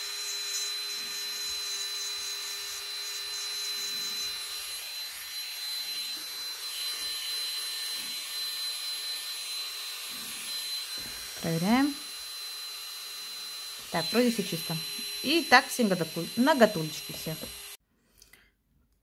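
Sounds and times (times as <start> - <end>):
nail drill whining: 0.0 - 17.8.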